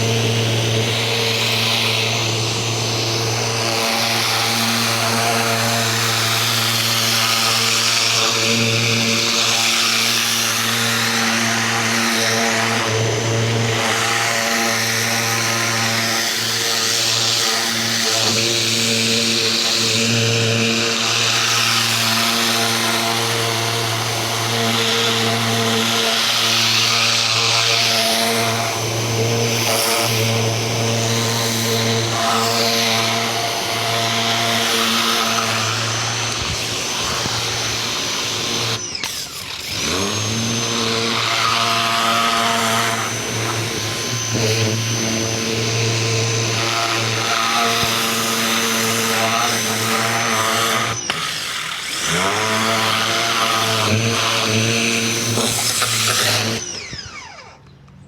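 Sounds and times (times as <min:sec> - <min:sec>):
pressure washer motor humming: 0:00.0 - 0:58.0.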